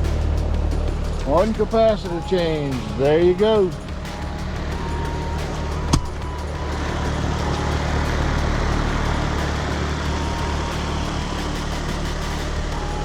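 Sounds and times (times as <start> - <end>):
compressor humming: 0.0 - 13.0
fan rushing: 0.0 - 13.0.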